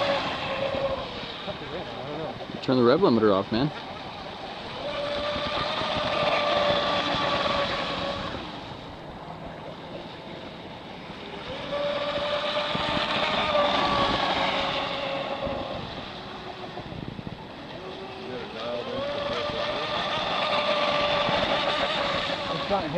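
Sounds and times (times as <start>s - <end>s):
electric motor whine: 0.0s - 2.4s, 3.1s - 22.9s.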